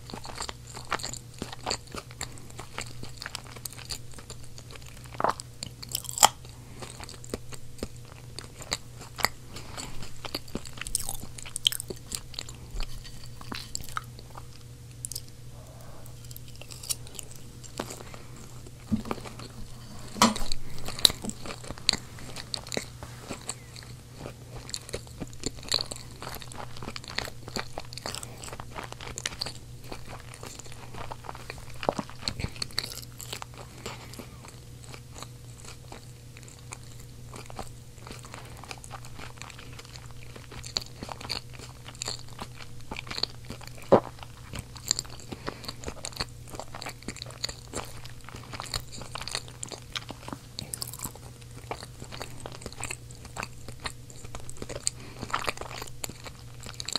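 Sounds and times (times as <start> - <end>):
chewing mouth clicks: 0.0 - 19.6, 20.4 - 56.9
steady low hum: 0.0 - 56.9.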